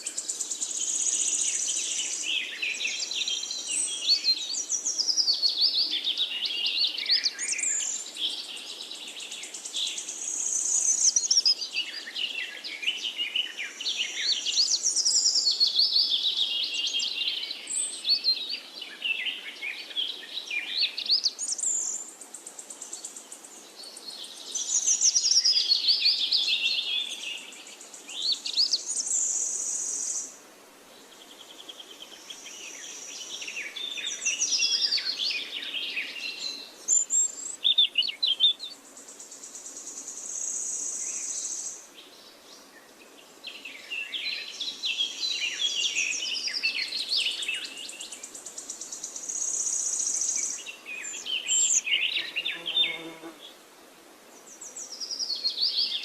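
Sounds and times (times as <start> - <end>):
birds singing: 0.0 - 30.3, 31.0 - 53.6, 54.3 - 56.0
faint steady hiss: 0.0 - 56.0.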